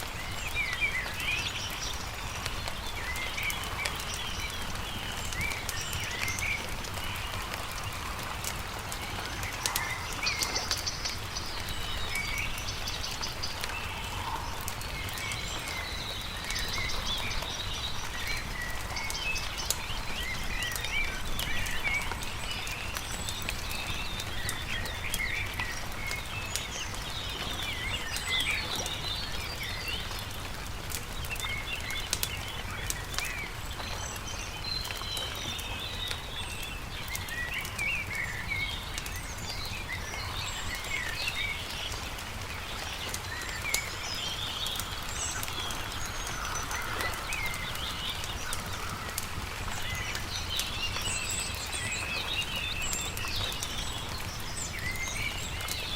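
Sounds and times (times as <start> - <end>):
crackling campfire: 0.0 - 55.9
songbirds chirping and singing: 0.0 - 55.9.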